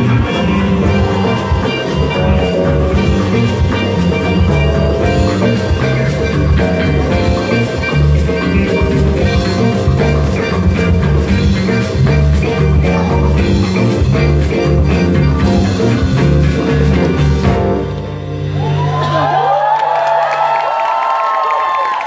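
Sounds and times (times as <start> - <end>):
repeating bass line: 0.0 - 19.2
electric guitars: 0.0 - 19.5
drum kit: 0.0 - 19.6.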